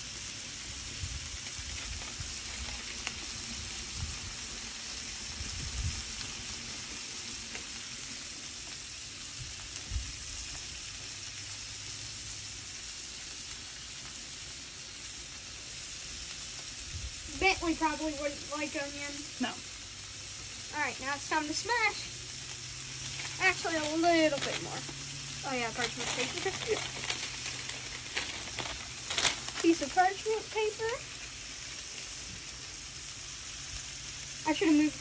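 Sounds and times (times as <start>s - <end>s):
meat sizzling on a griddle: 0.0s - 35.0s.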